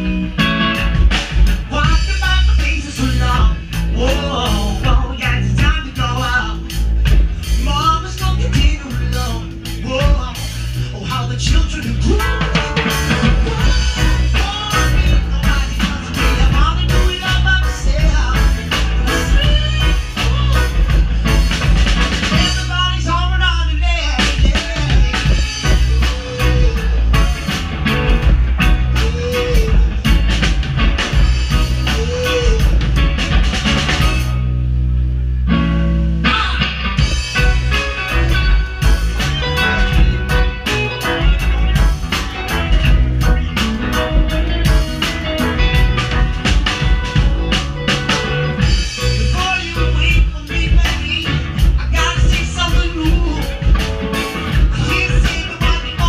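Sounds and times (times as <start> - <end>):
drum kit: 0.0 - 56.0
electric guitar: 0.0 - 56.0
keyboards: 0.0 - 56.0
live rock band playing: 0.0 - 56.0.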